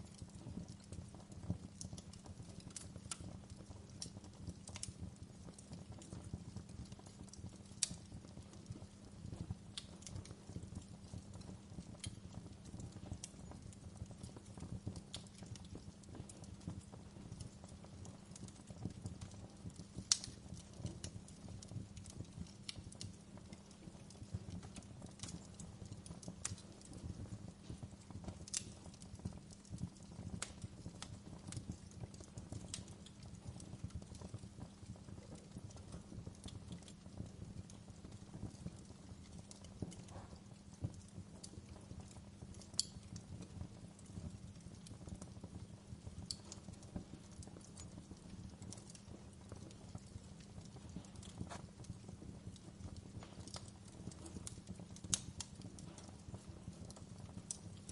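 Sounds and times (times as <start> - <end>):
low rumble of burning: 0.0 - 57.9
wood fire crackling and popping: 0.0 - 57.9.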